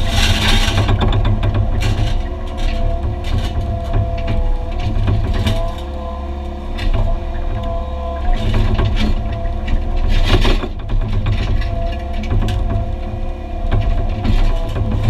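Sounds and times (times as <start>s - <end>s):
diesel engine under load: 0.0s - 15.0s
hydraulic whine: 0.0s - 15.0s.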